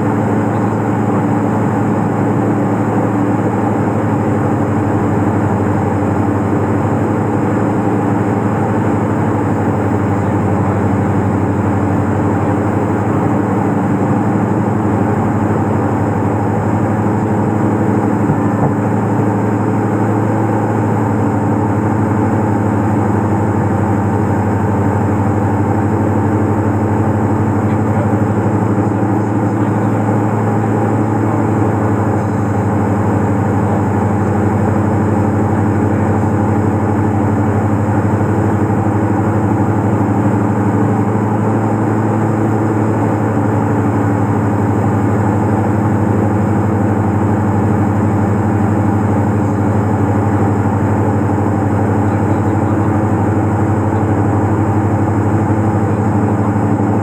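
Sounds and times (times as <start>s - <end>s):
aircraft engines droning in cabin: 0.0s - 57.0s.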